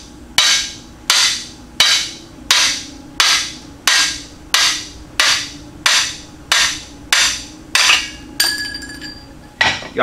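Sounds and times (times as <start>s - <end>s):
hammer striking steel bar: 0.4s - 8.9s.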